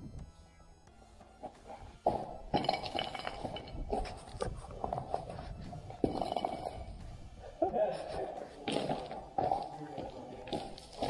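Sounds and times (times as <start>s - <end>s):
footsteps crunching on snow: 1.7s - 11.0s.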